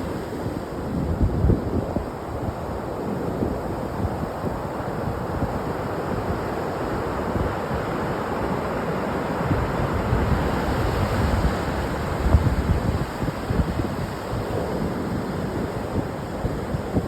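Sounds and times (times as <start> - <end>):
ocean surf washing onto beach: 0.0 - 17.0
wind buffeting microphone: 0.3 - 8.0, 9.4 - 17.0.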